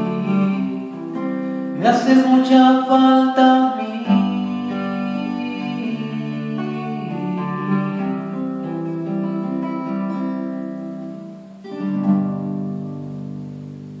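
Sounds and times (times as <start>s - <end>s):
classical guitar playing: 0.0s - 14.0s.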